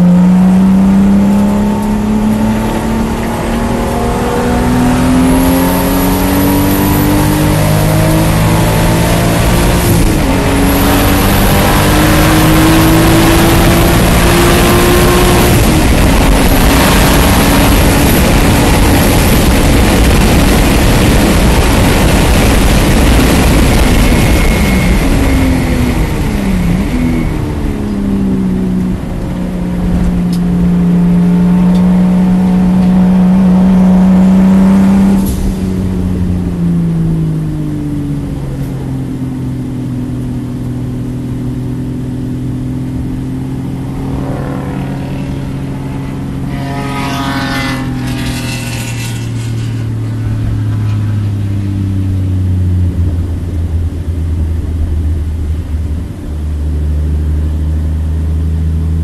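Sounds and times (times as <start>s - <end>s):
car engine from inside cabin: 0.0s - 48.5s, 49.8s - 59.0s.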